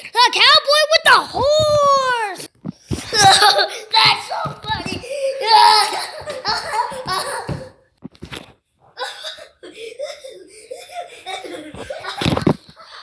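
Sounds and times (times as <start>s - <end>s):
child laughing: 1.0s - 7.8s, 9.0s - 13.0s.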